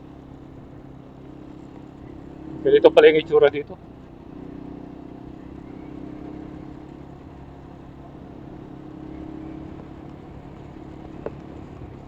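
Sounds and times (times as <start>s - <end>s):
road noise: 0.0s - 12.0s
vehicle engine running steadily: 0.0s - 12.0s.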